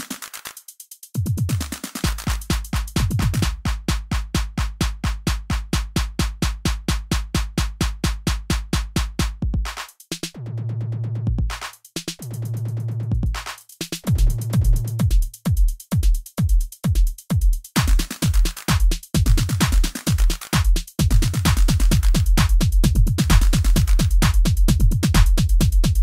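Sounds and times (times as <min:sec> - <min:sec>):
electronic music with drum-machine beat: 0:00.0 - 0:26.0.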